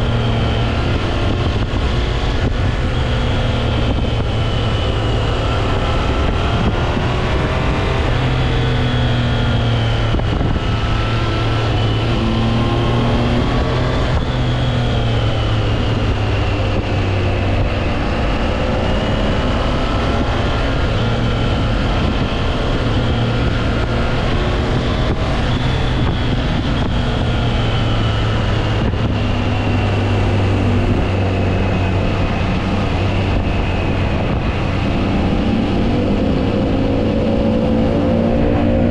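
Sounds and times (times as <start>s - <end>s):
motorcycle engine running: 0.0s - 36.8s.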